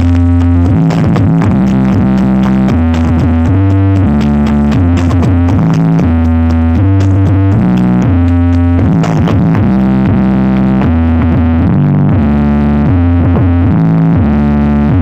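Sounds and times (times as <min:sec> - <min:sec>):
heavy synthesizer bass line: 0:00.0 - 0:15.0
loud electronic music: 0:00.0 - 0:15.0.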